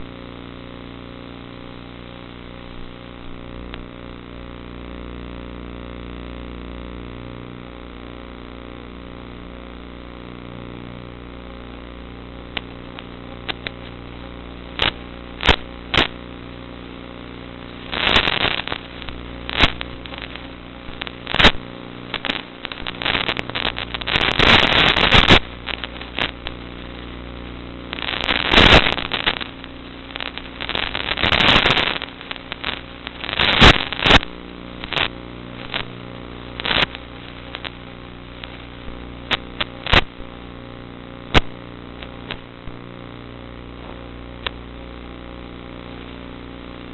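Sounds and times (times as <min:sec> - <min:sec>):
bursts of crackling: 0:09.3 - 0:46.9.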